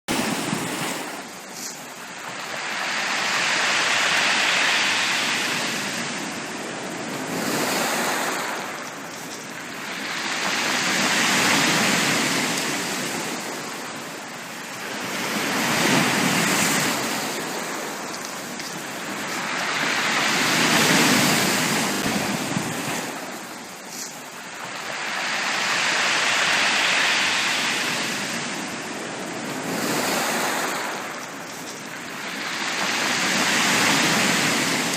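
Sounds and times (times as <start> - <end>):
sea waves breaking on beach: 0.1 - 34.9.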